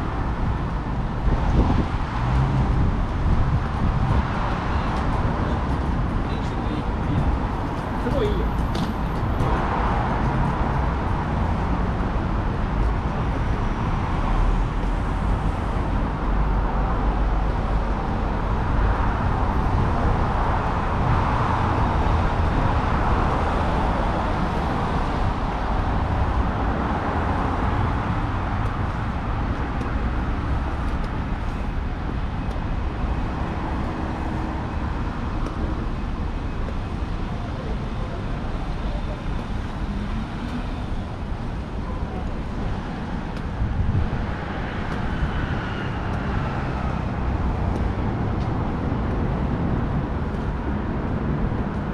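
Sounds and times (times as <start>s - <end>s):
traffic on wet road: 0.0s - 51.9s.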